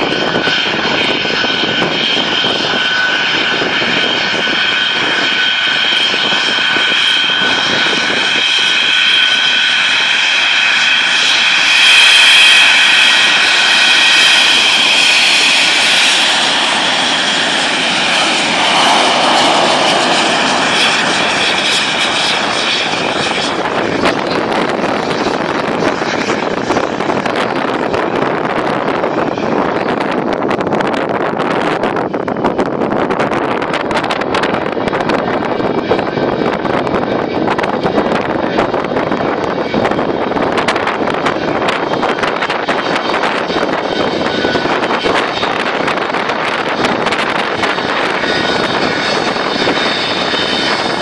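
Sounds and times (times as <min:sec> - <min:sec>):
jet engine roar with whine: 0:00.0 - 0:51.0.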